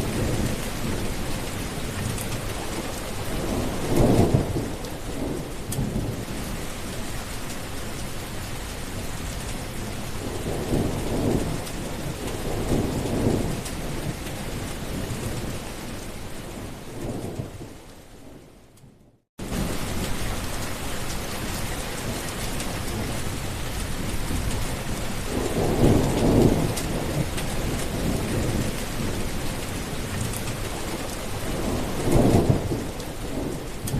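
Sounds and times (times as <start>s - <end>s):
rolling thunder: 0.0s - 6.7s, 9.7s - 18.5s, 21.9s - 33.9s
steady rain: 0.0s - 33.9s.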